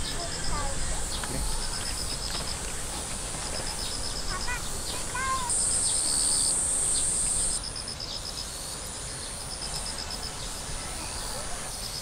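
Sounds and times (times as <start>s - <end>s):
insects buzzing high-pitched: 0.0s - 12.0s
rapid high insect pulses: 0.0s - 12.0s.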